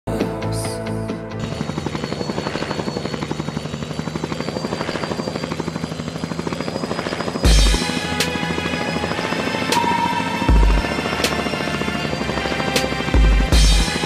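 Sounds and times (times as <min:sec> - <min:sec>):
helicopter rotor chopping: 0:01.0 - 0:14.0.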